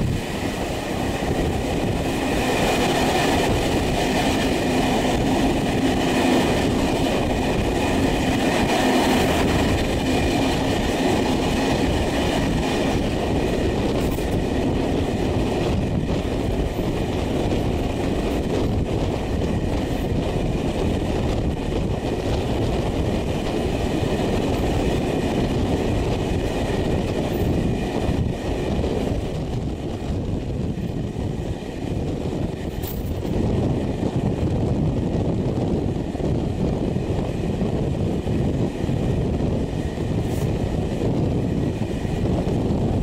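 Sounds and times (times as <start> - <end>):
rushing air: 0.0 - 43.0
train wheels rolling on rails: 0.0 - 43.0.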